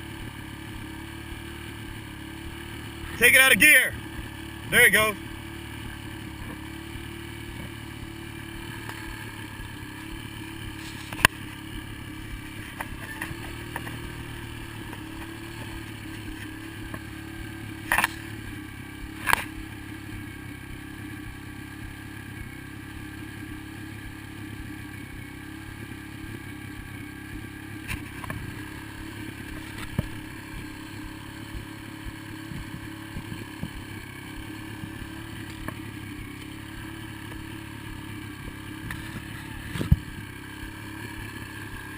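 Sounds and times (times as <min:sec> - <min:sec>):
dirt bike engine idling: 0:00.0 - 0:41.9.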